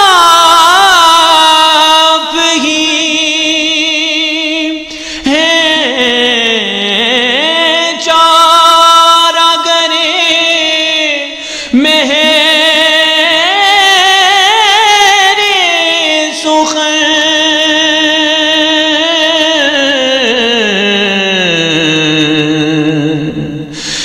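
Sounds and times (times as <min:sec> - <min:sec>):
man singing ornamented notes: 0:00.0 - 0:24.0.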